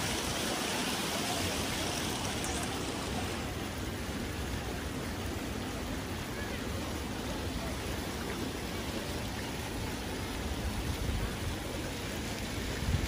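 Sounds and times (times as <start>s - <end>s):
fountain jets splashing: 0.0s - 13.0s.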